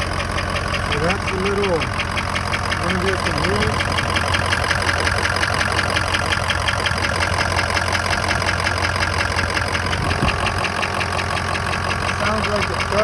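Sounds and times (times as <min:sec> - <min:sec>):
diesel engine idling: 0:00.0 - 0:13.0
soft engine knock: 0:00.0 - 0:13.0.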